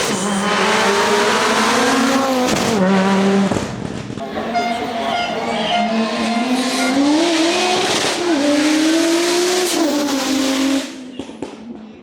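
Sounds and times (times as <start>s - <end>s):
rally car engine accelerating: 0.0s - 11.7s.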